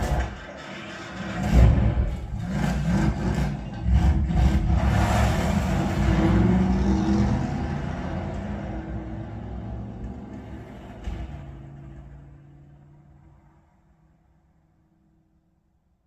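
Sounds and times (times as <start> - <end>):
car engines revving: 0.0 - 14.6.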